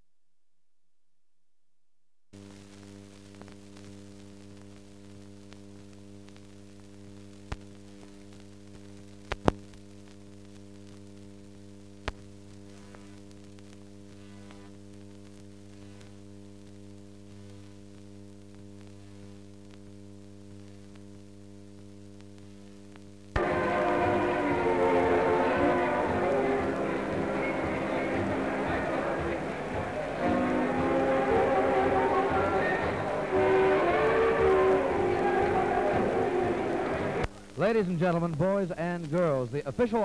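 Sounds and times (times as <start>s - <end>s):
electrical hum with hiss: 2.4s - 40.0s.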